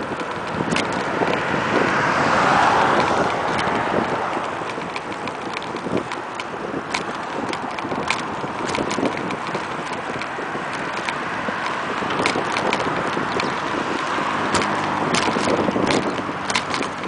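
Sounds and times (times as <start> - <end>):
bike rattling over bumps: 0.0 - 17.0
wind on microphone: 0.0 - 17.0.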